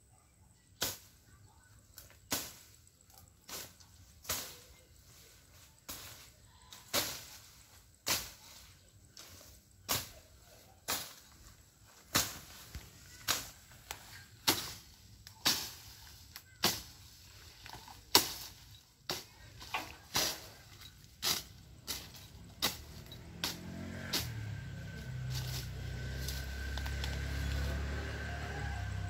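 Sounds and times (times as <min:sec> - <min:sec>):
blade slashing through grass: 0:02.2 - 0:27.9.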